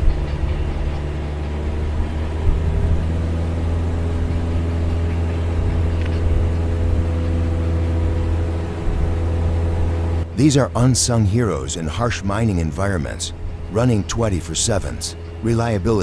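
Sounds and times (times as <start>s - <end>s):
large diesel engine running: 0.0s - 16.0s.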